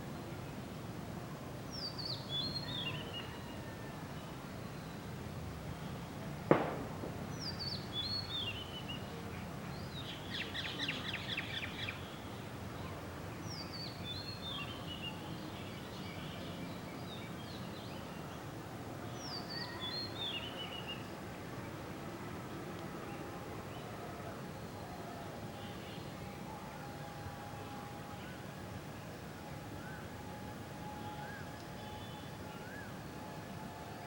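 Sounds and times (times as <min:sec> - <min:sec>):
steady outdoor hum: 0:00.0 - 0:34.0.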